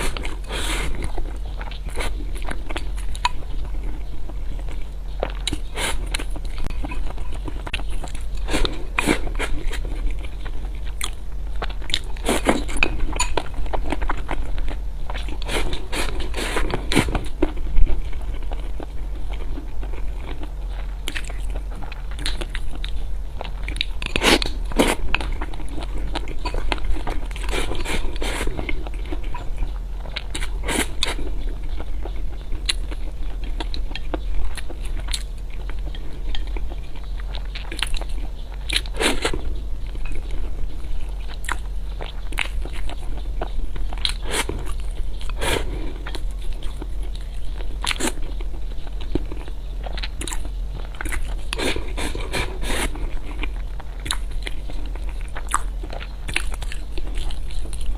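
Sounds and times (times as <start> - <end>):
crunchy chewing of food: 0.0 - 57.9
low hum: 0.0 - 57.9.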